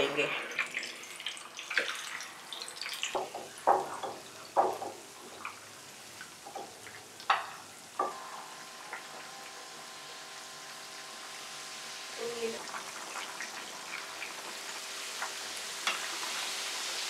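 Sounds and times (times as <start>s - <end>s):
fish sizzling in hot oil: 0.2s - 17.0s.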